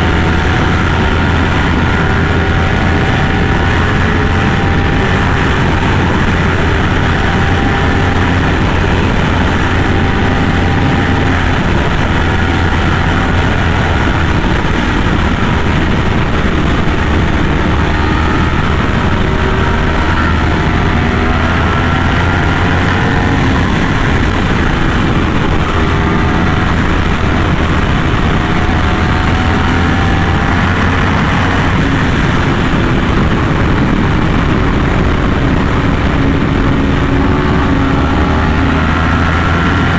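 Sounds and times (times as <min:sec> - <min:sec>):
constant rushing noise: 0:00.0 - 0:39.9
motorcycle engine cruising: 0:00.0 - 0:39.9.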